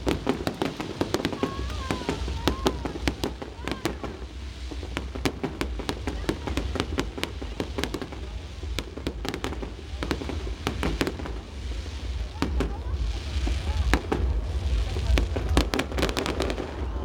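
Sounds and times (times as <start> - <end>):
continuous low rumble: 0.0 - 17.0
fireworks cracks and bangs: 0.0 - 17.0.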